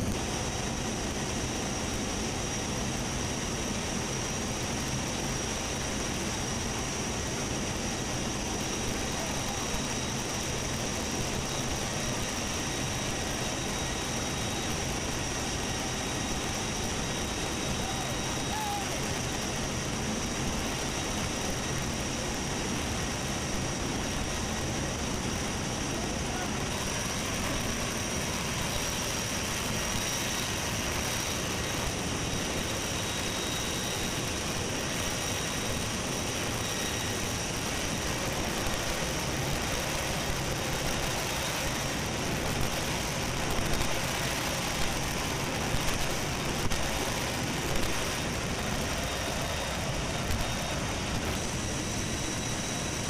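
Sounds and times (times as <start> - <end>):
thin high whine: 0.0 - 53.0
wind and jet engines roaring: 0.0 - 53.0.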